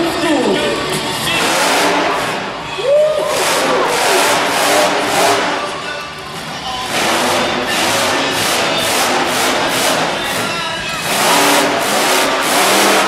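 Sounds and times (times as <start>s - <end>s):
crowd noise: 0.0s - 13.0s
loud music over loudspeakers: 0.0s - 13.0s
monster truck engine running: 0.0s - 13.0s.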